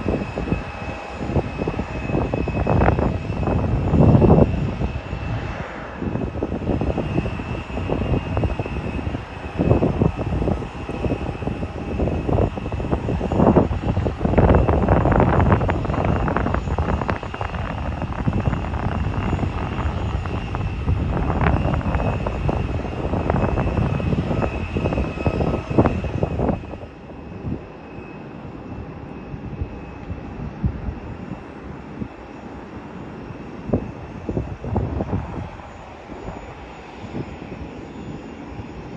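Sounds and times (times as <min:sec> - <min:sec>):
jet airliner engines roaring: 0:00.0 - 0:38.9
wind buffeting microphone: 0:00.0 - 0:38.9.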